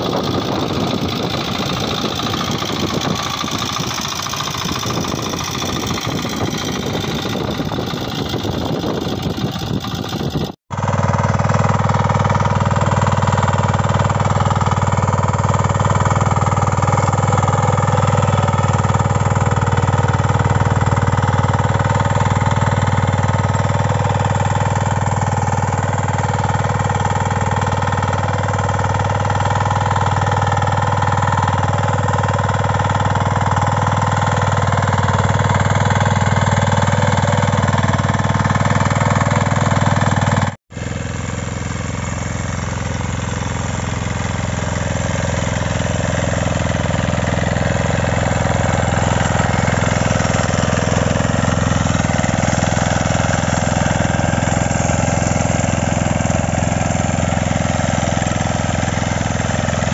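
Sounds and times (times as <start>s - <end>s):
diesel weeder engine running: 0.0s - 59.9s.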